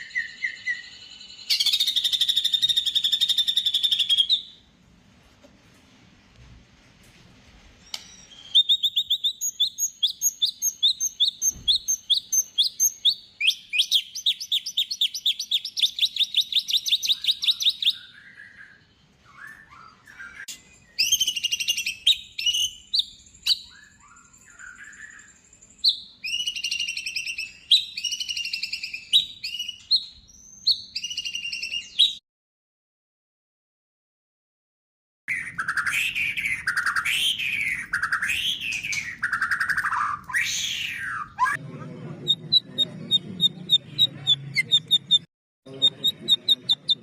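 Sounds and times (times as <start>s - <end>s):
songbird singing: 0.0s - 4.7s, 7.8s - 32.2s, 35.3s - 41.6s, 42.2s - 47.0s.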